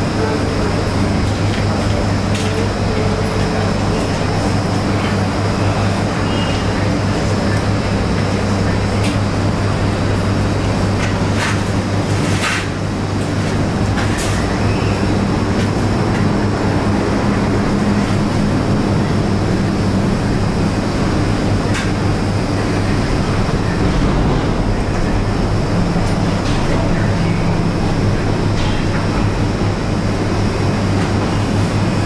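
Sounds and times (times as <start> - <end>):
machinery hum and rumble: 0.0 - 32.0.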